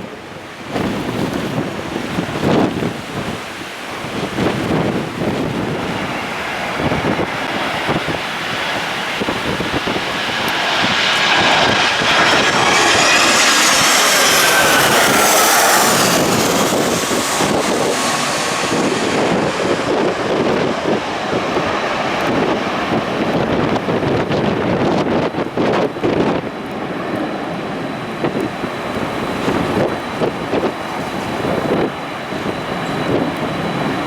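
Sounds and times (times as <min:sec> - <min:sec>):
jet airliner engines passing: 0:00.0 - 0:34.0
wind buffeting microphone: 0:00.0 - 0:34.0.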